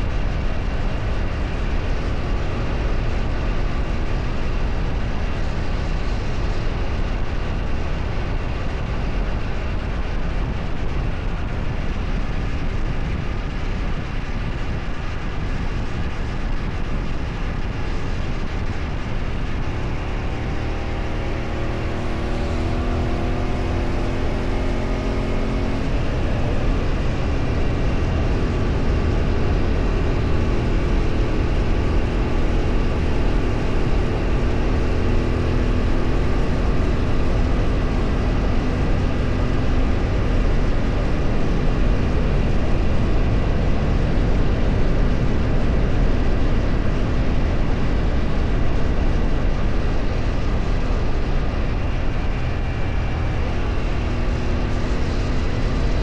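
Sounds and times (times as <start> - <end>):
vehicle engine running: 0.0 - 56.0
wind and road rumble: 0.0 - 56.0.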